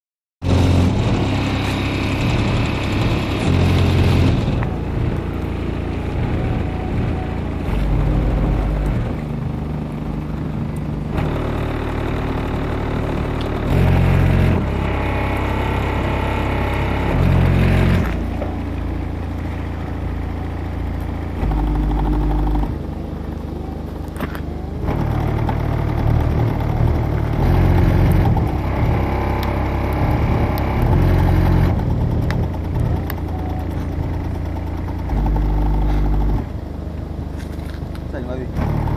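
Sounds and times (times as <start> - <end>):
bass-heavy music from subwoofer: 0.4 - 23.5, 24.4 - 36.6, 38.6 - 38.9.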